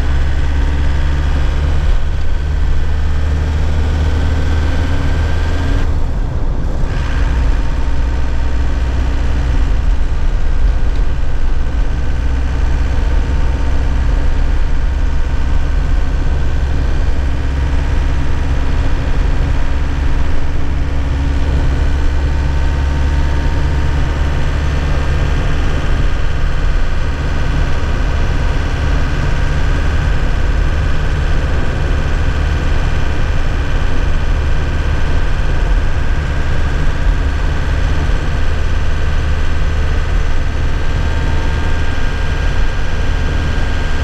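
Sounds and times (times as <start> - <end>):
diesel truck engine humming: 0.0 - 44.0.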